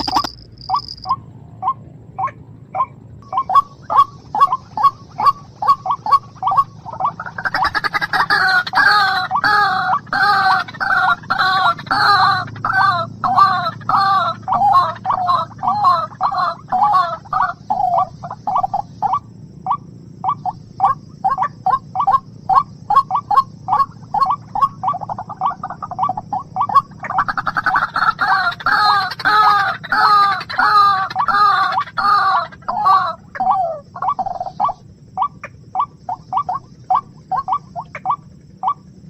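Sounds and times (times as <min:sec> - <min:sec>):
bird calling repeated notes: 0:00.0 - 0:39.0.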